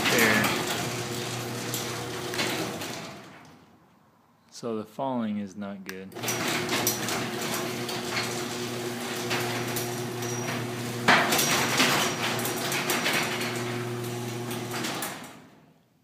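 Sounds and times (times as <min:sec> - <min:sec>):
garage door motor running: 0:00.0 - 0:03.6, 0:06.1 - 0:15.7
garage door rattling: 0:00.0 - 0:03.6, 0:06.1 - 0:15.6
garage door clunk: 0:00.0 - 0:03.7, 0:06.1 - 0:15.7.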